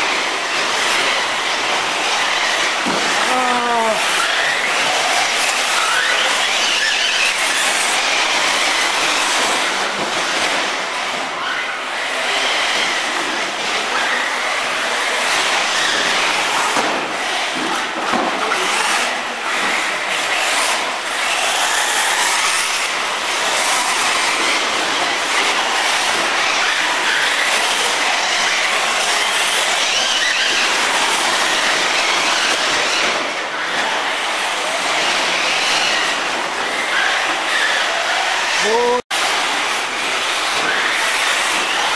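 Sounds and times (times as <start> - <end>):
rc car motors whining: 0.0 - 41.9.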